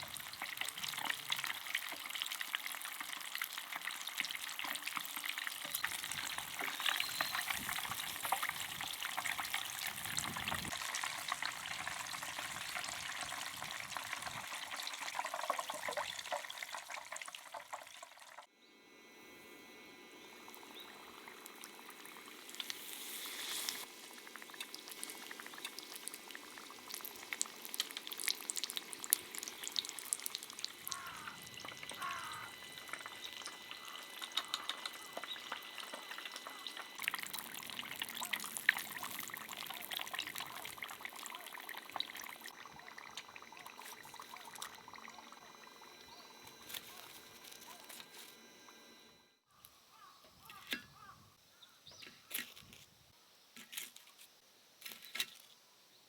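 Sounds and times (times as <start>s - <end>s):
food frying in hot oil: 0.0s - 18.5s, 20.4s - 48.1s.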